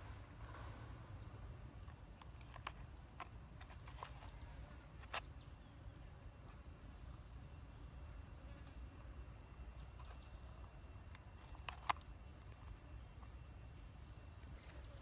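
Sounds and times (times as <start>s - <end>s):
high insect buzz: 0.0s - 15.0s.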